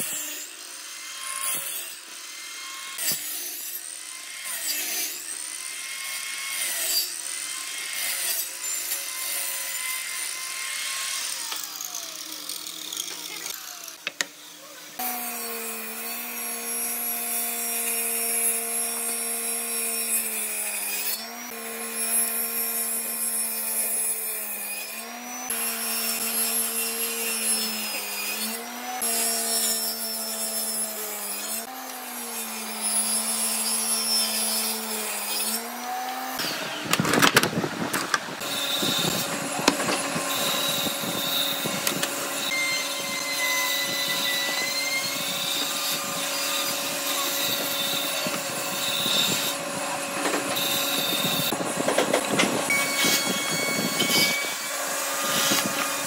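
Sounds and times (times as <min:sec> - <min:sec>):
power tool cutting wood: 0:00.0 - 0:56.0.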